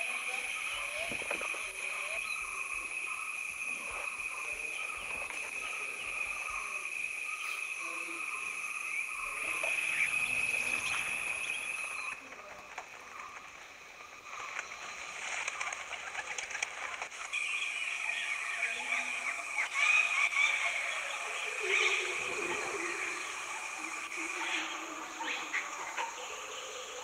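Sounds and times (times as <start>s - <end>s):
bird calls: 0.0s - 27.0s.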